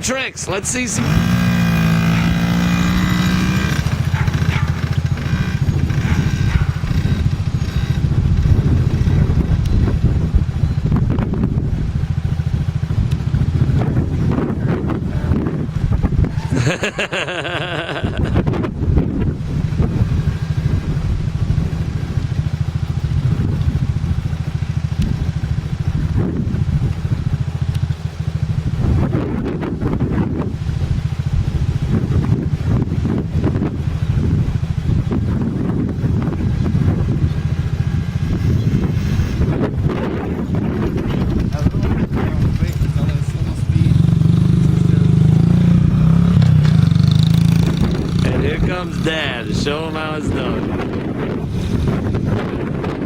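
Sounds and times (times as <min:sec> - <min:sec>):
small motorcycle engine running: 0:00.9 - 0:53.0
wind buffeting microphone: 0:01.0 - 0:53.0.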